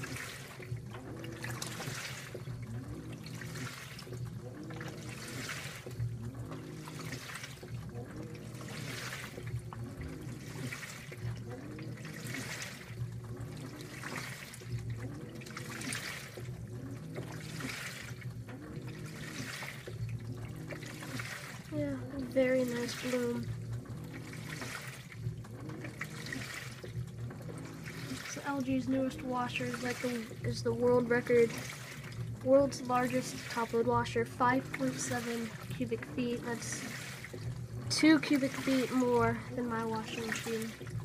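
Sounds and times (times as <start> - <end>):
washer motor whine: 0.0 - 41.0
washing machine water sloshing: 0.0 - 41.0.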